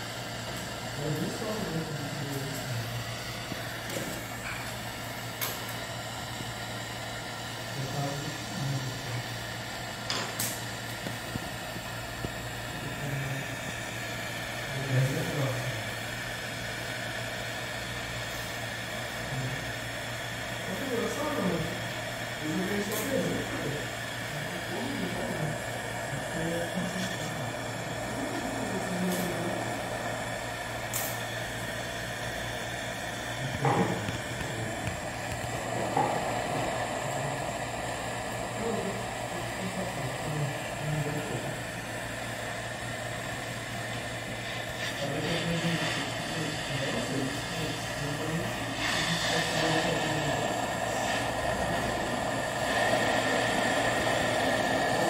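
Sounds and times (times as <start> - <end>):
gas torch hissing: 0.0 - 55.0.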